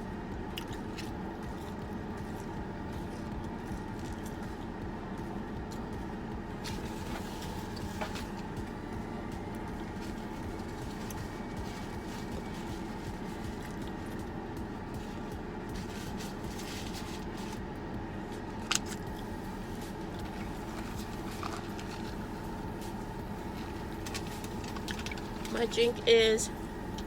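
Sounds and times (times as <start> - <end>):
air conditioning hum: 0.0 - 27.0
car engine idling: 0.0 - 27.0.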